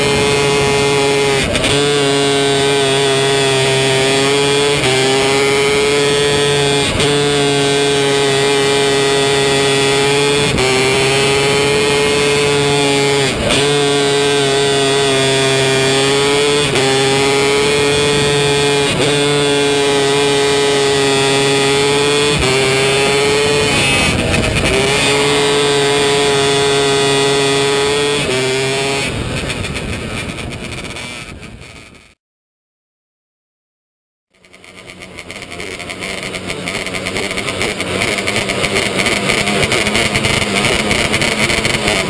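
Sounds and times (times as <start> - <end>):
racing car engine: 0.0 - 32.1, 34.4 - 42.0.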